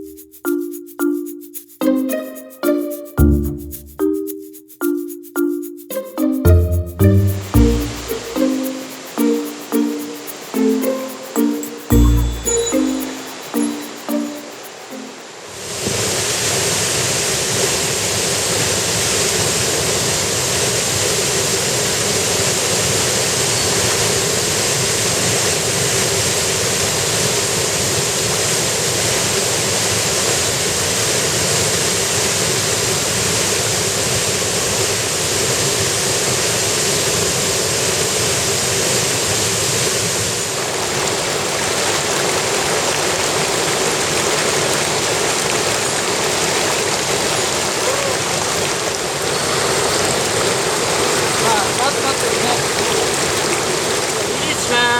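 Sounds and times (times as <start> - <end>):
stream rushing over rocks: 6.2 - 54.9.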